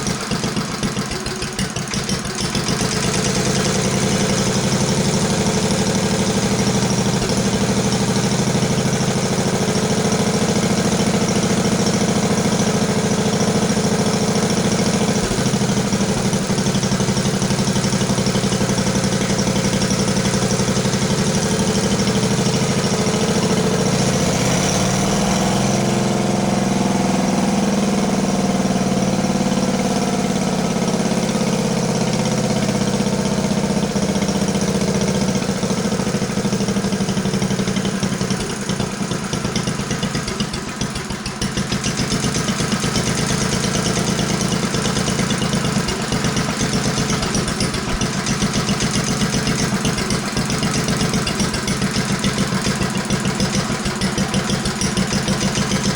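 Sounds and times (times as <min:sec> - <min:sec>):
single-cylinder engine running: 0:00.0 - 0:55.9.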